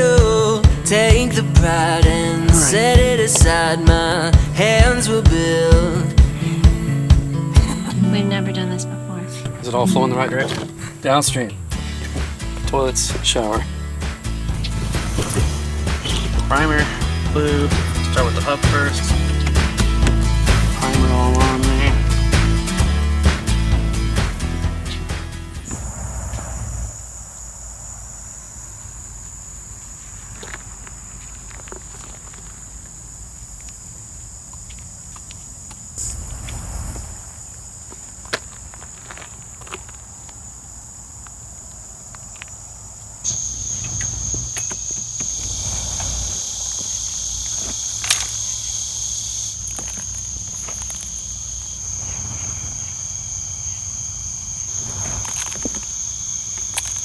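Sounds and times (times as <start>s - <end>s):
insects trilling: 0.0s - 25.0s, 25.6s - 57.0s.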